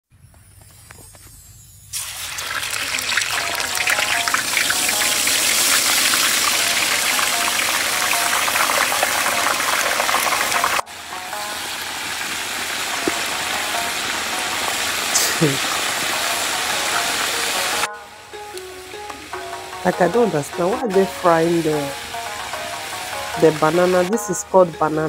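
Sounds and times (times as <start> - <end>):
oil crackling sizzle: 1.4 - 25.0.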